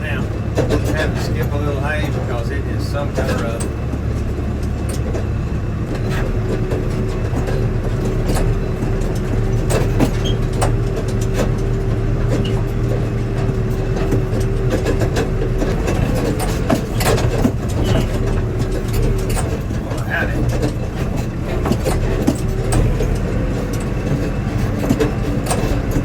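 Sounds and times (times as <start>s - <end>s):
engine low drone: 0.0s - 26.0s.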